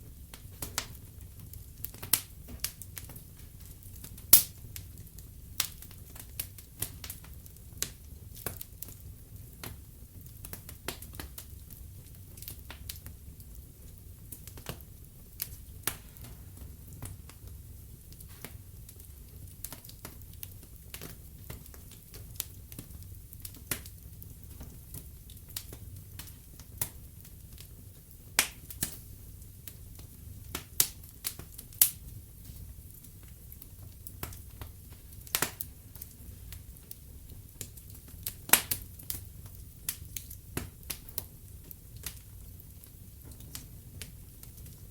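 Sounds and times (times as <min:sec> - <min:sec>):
low rumble of flames: 0:00.0 - 0:44.9
logs crackling and popping: 0:00.2 - 0:44.9.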